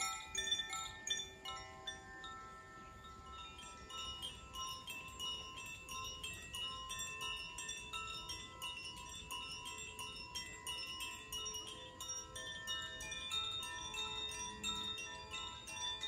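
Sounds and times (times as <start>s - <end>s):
bamboo chimes tinkling: 0.0s - 16.0s.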